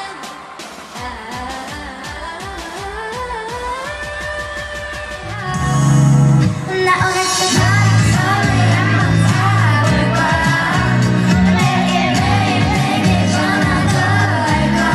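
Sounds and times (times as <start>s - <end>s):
woman singing: 0.0s - 6.0s, 6.6s - 14.9s
pop music with bass and drums: 0.0s - 14.9s.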